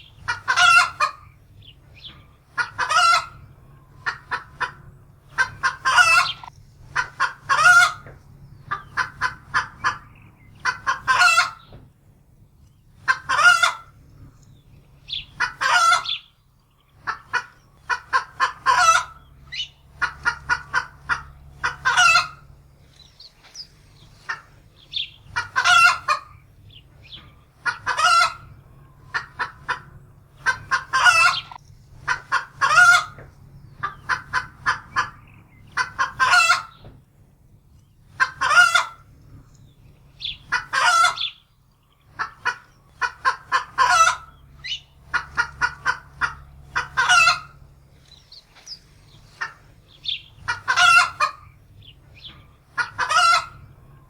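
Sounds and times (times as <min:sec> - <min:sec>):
hen cackling: 0:00.0 - 0:11.8, 0:13.0 - 0:14.0, 0:15.0 - 0:36.9, 0:38.0 - 0:39.4, 0:40.1 - 0:54.0.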